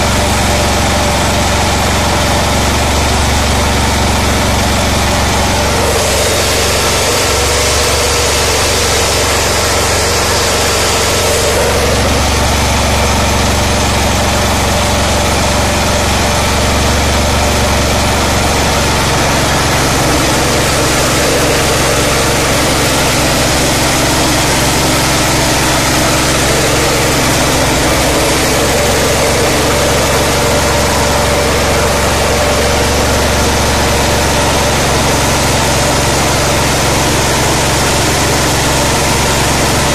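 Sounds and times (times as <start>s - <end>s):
rice huller running: 0.0s - 39.9s.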